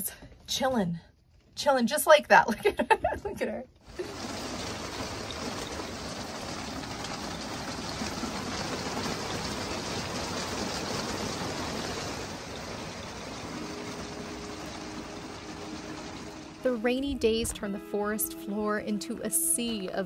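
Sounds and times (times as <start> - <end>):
heavy rain falling: 3.8 - 20.0.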